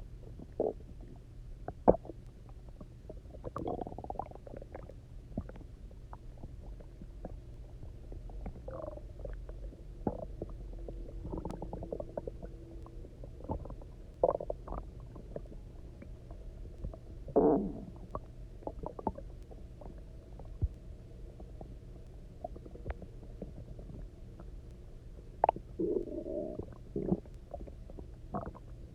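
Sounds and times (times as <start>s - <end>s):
stomach growling and gurgling: 0.0s - 28.9s.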